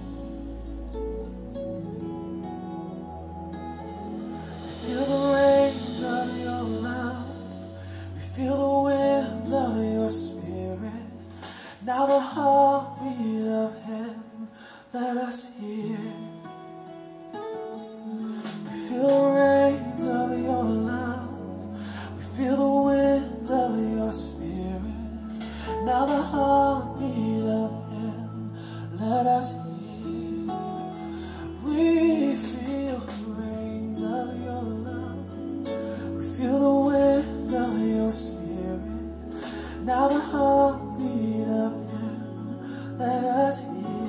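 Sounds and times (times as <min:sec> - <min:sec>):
song over loudspeakers: 0:00.0 - 0:44.0.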